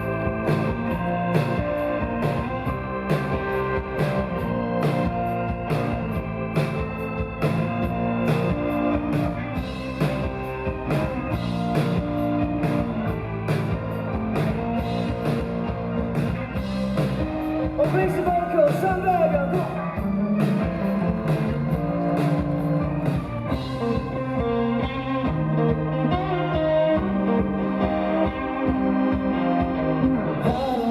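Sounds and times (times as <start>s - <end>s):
drum kit beat: 0.0s - 30.9s
electric guitar: 0.0s - 30.9s
guitar lead line bending: 0.0s - 30.9s.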